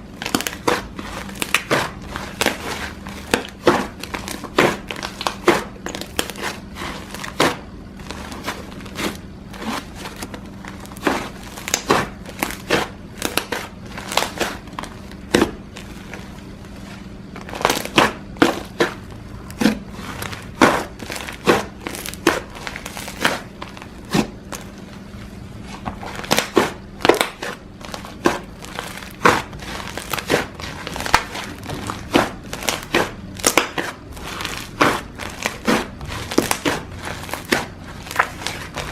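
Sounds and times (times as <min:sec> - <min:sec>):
slime squished by hand: 0:00.1 - 0:38.9.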